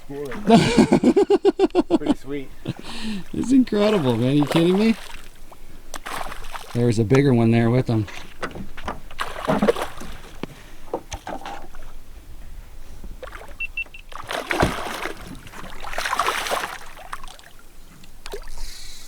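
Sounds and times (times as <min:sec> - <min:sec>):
water splashing against boat hull: 0:02.0 - 0:18.8.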